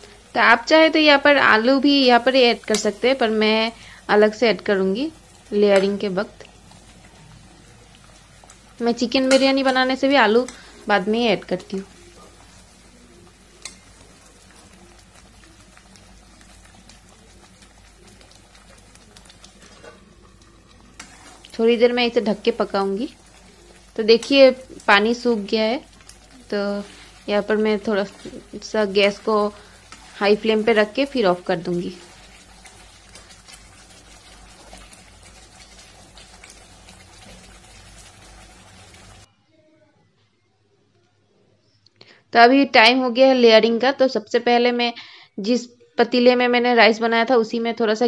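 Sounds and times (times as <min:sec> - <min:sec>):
gravy bubbling and sizzling: 0:00.0 - 0:39.3.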